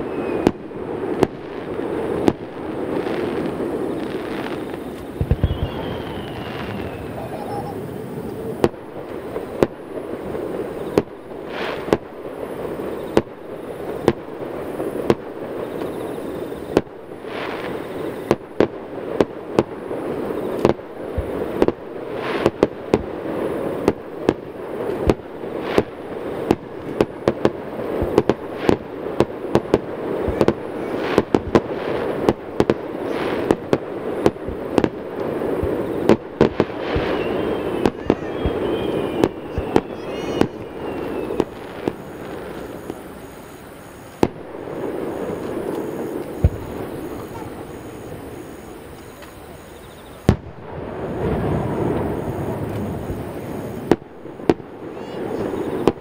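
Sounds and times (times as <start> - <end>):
firework bangs: 0.0 - 56.0.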